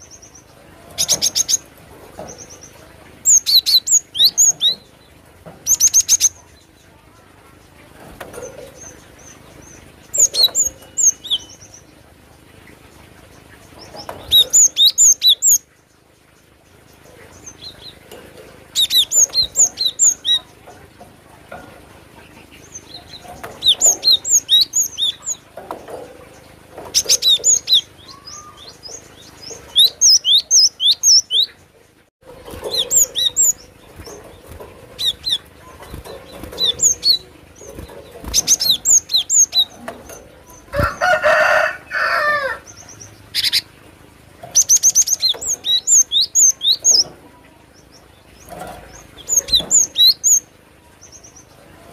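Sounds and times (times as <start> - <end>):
bird song of sharp high notes: 0.0 - 43.8, 44.4 - 51.8.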